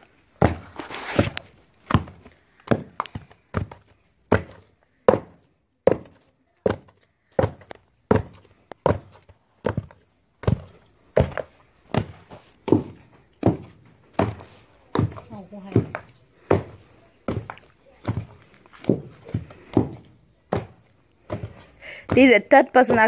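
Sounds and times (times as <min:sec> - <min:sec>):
pestle pounding in wooden mortar: 0:01.9 - 0:23.0.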